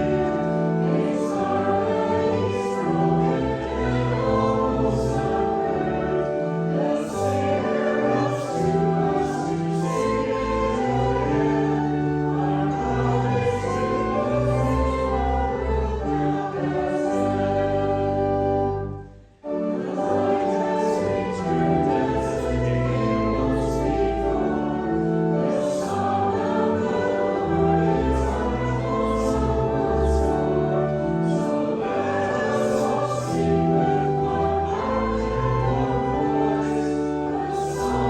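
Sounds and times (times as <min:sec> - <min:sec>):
congregation singing a hymn: 0:00.0 - 0:38.0.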